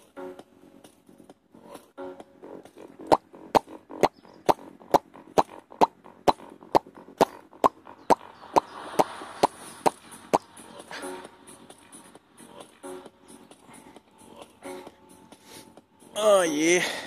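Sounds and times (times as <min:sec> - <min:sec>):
sharp evenly spaced clicks: 0:00.0 - 0:16.2.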